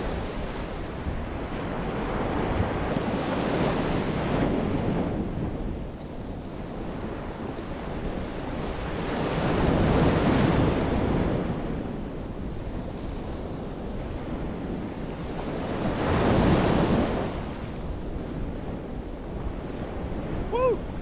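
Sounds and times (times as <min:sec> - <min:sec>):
ocean waves breaking on sand: 0:00.0 - 0:21.0
wind buffeting microphone: 0:00.0 - 0:21.0.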